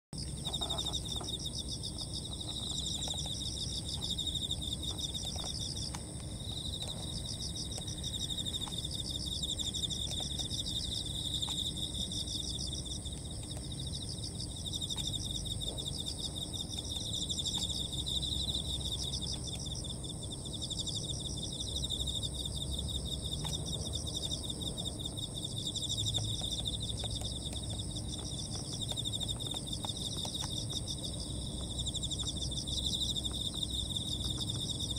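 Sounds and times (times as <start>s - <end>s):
insects trilling: 0.2s - 34.9s
low background rumble: 0.2s - 34.9s.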